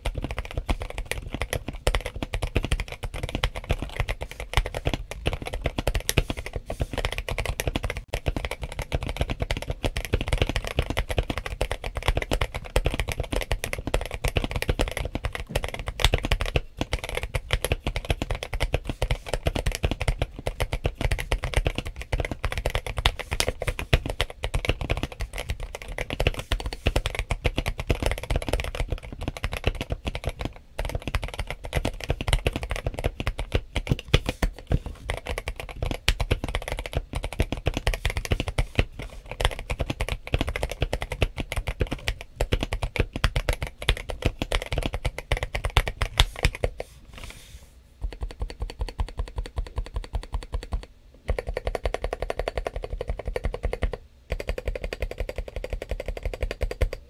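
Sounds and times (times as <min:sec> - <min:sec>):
mechanical keyboard typing: 0:00.0 - 0:46.8, 0:48.0 - 0:57.0.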